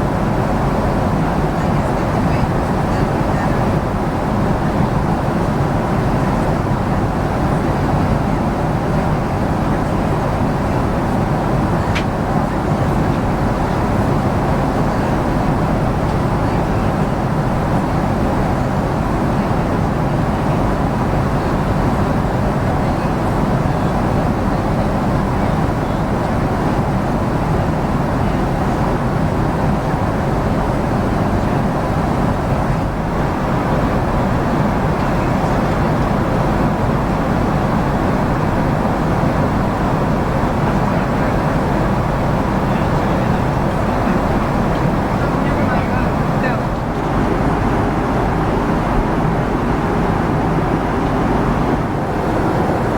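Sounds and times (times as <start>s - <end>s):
aircraft cabin engine roar: 0.0s - 52.9s.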